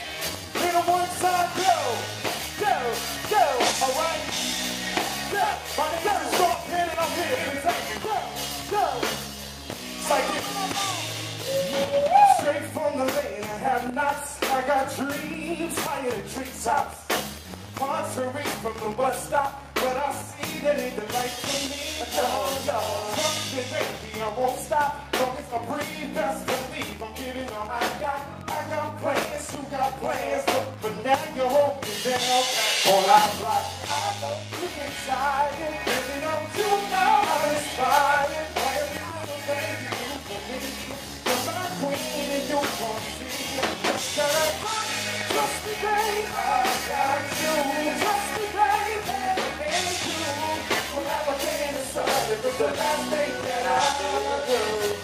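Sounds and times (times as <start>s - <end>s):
man singing: 0.0s - 4.4s, 5.3s - 9.2s, 9.9s - 17.1s, 17.8s - 55.0s
drum kit: 0.0s - 55.0s
electric guitars: 0.0s - 55.0s.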